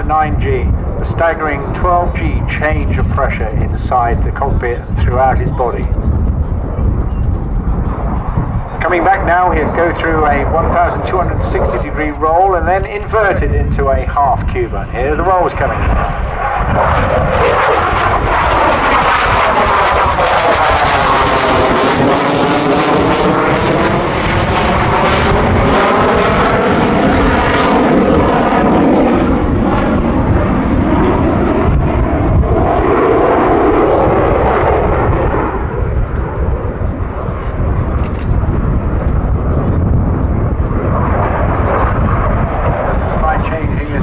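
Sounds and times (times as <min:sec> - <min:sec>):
jet flying past: 0:00.0 - 0:44.0.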